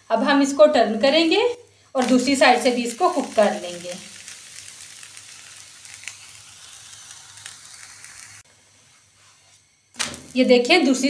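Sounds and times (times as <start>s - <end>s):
crepe sizzling in a frying pan: 0.1s - 11.0s.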